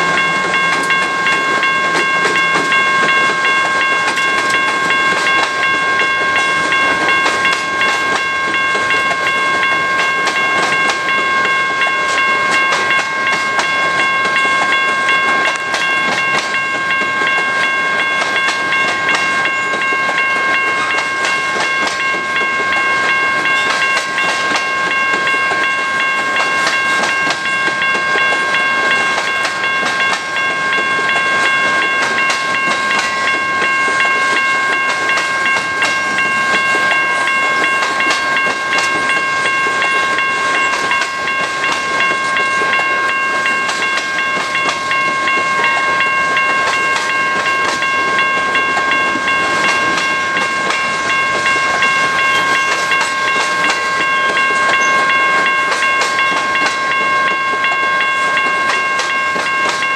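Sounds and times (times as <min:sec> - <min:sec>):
train rumble: 0:00.0 - 0:59.9
train wheels clicking over rail joints: 0:00.0 - 0:59.9.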